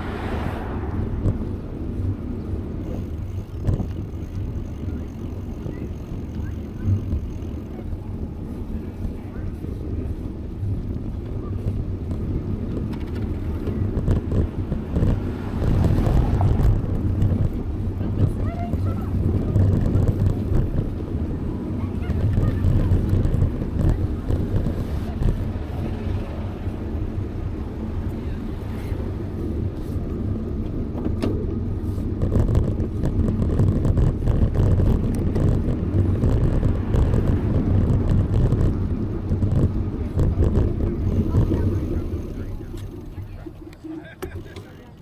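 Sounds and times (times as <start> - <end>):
bicycle bumps: 0.0 - 45.0
wind rumbling on microphone: 0.0 - 45.0.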